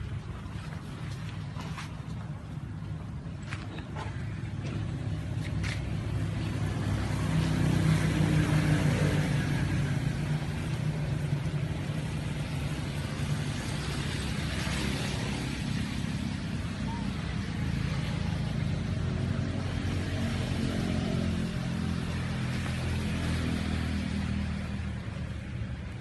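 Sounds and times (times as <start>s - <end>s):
vehicle engine passing: 0.0s - 26.0s.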